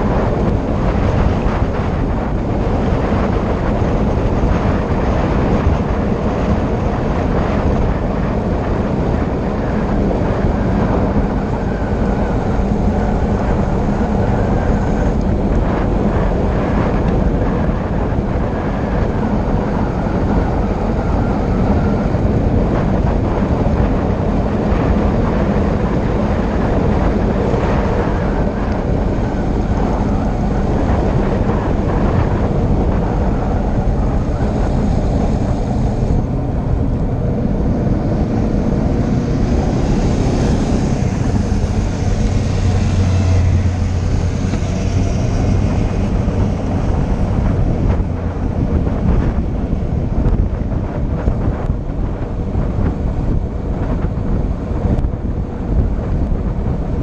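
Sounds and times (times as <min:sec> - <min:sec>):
low hum: 0:00.0 - 0:57.0
wind rushing over microphone: 0:00.0 - 0:57.0.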